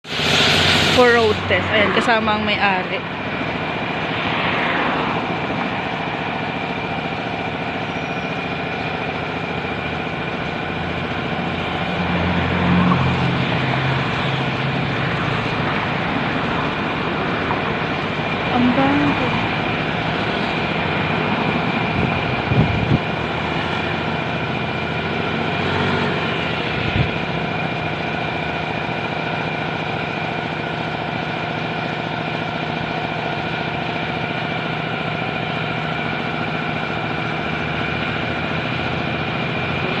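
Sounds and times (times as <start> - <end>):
car engine hum: 0.0 - 40.0
high whine: 0.0 - 40.0.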